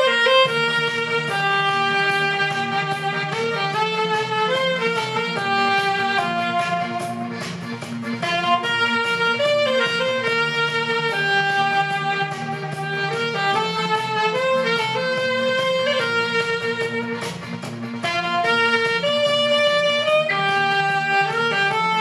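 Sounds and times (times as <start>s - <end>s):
alto saxophone melody: 0.0s - 22.0s
backing track with bass and chords: 0.0s - 22.0s.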